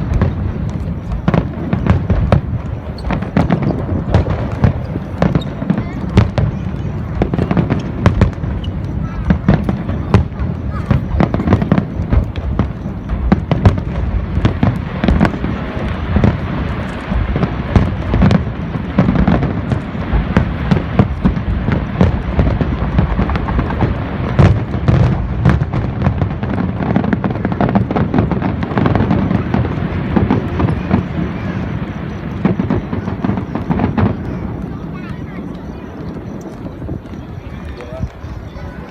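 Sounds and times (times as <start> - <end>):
firework bangs and crackles: 0.0 - 38.9
low firework booms: 0.0 - 38.9.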